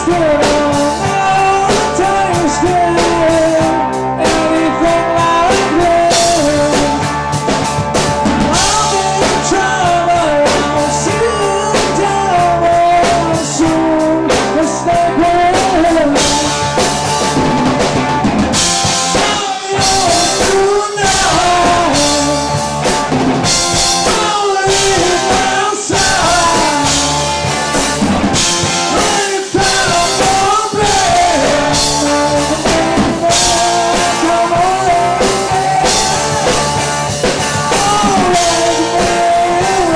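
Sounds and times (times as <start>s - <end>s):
person singing: 0.0s - 7.2s, 8.3s - 17.8s, 18.8s - 22.9s, 23.5s - 39.9s
live rock band playing: 0.0s - 39.9s.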